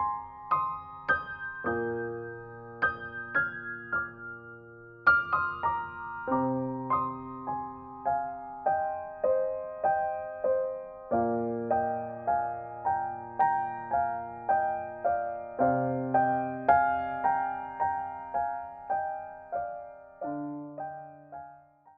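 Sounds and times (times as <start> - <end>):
gentle piano music: 0.0 - 21.9.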